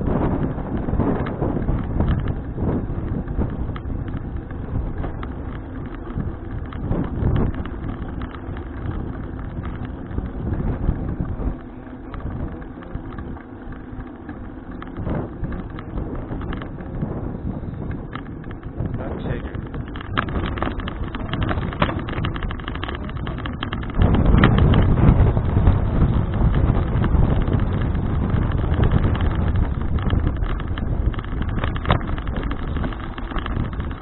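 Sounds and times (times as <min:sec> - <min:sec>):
bike knocks and rattles: 0:00.0 - 0:34.0
wind buffeting microphone: 0:00.0 - 0:34.0.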